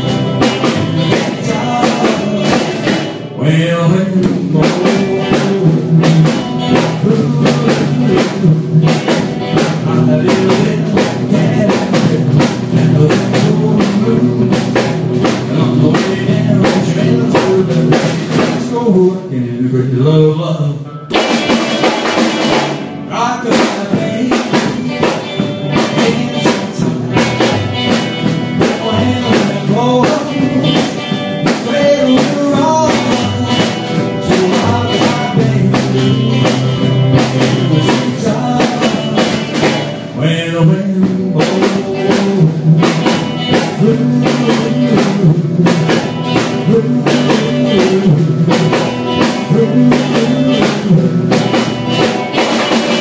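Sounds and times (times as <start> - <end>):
drums hitting: 0.0 - 19.0, 21.1 - 53.0
rock and roll band playing: 0.0 - 19.4, 20.9 - 53.0.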